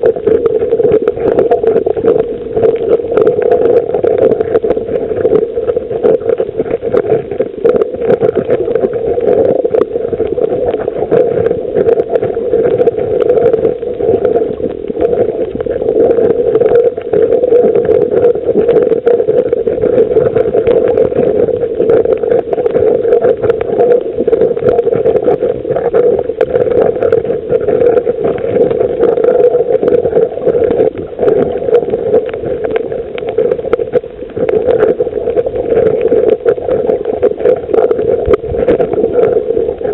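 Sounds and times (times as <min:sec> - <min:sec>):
continuous underwater drone: 0:00.0 - 0:39.9
underwater crackle of clicks: 0:00.0 - 0:39.9.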